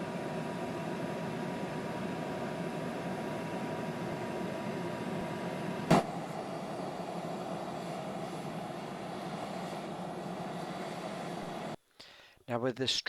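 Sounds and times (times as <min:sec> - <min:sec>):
furnace blower rushing: 0:00.0 - 0:11.8
faint steady whine: 0:00.0 - 0:13.0.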